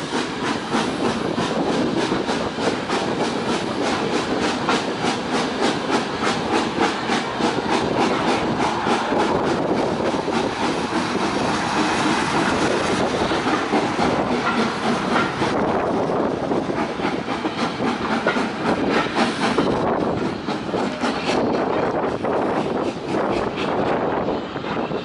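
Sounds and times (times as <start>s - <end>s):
railway carriage rumbling: 0.0s - 25.0s
wheels clicking over rail joints: 0.1s - 23.9s.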